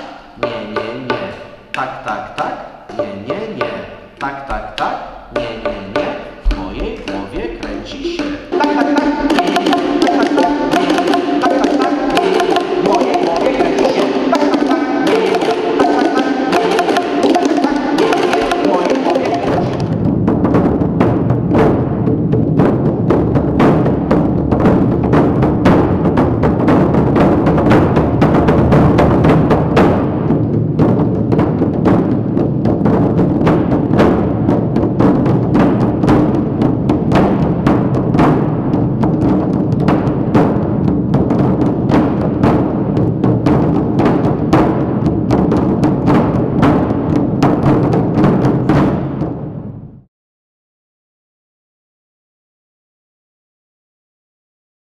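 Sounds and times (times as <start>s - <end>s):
plastic percussion tubes struck: 0.0s - 49.6s.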